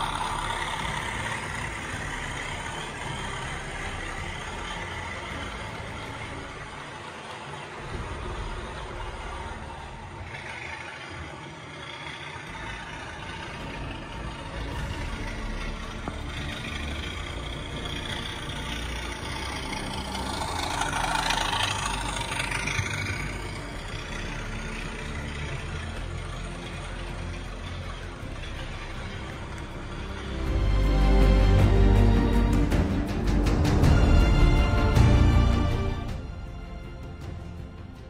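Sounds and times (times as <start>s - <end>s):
diesel locomotive engine running: 0.0s - 38.0s.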